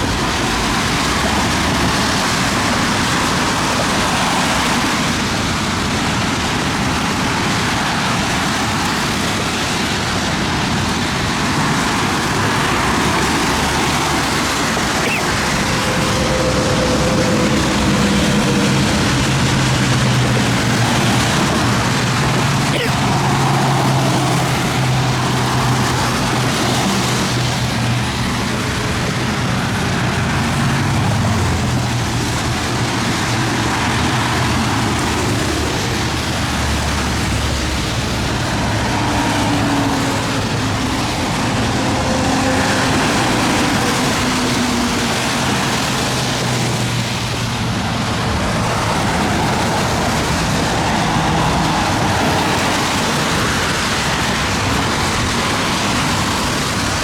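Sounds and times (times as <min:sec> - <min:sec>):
vehicle tyre noise: 0:00.0 - 0:57.0.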